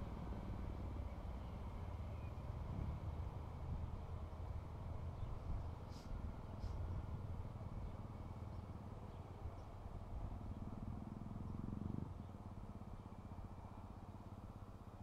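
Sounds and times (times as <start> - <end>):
distant diesel train engine rumble: 0.0 - 15.0.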